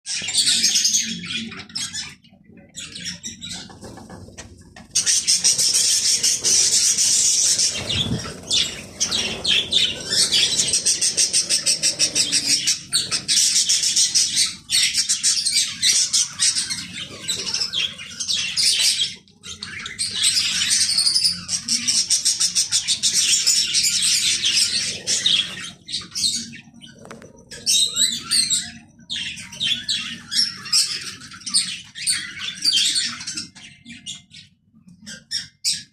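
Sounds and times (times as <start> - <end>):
budgerigars chattering and chirping: 4.9 - 35.9.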